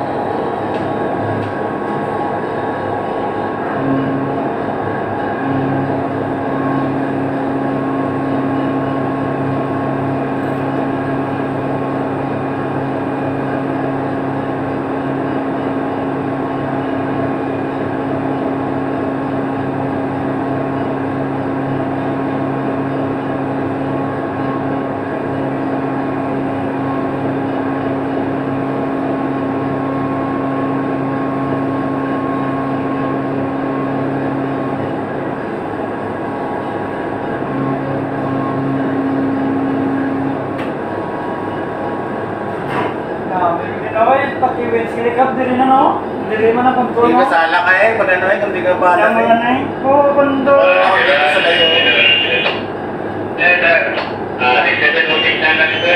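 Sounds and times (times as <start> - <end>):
diesel boat engine droning: 0.0 - 55.9.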